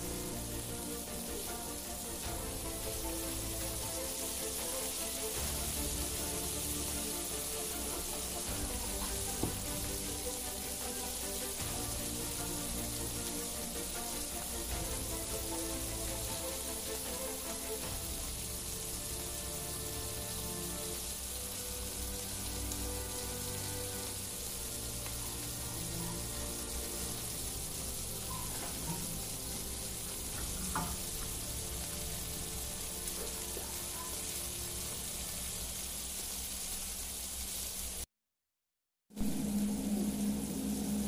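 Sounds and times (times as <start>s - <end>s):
soft background music: 0.0s - 35.7s
meat sizzling on hot stone: 0.0s - 38.1s.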